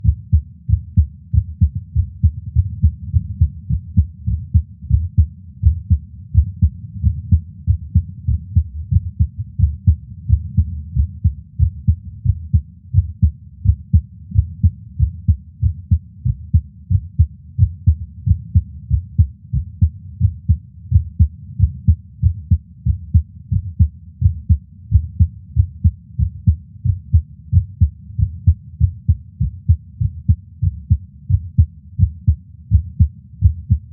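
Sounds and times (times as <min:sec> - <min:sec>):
heartbeat through a stethoscope: 0:00.0 - 0:33.9.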